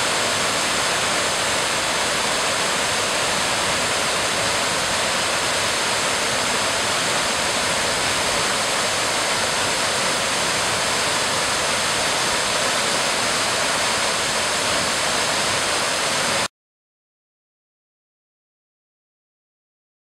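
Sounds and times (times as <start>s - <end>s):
waterfall rushing: 0.0s - 16.5s.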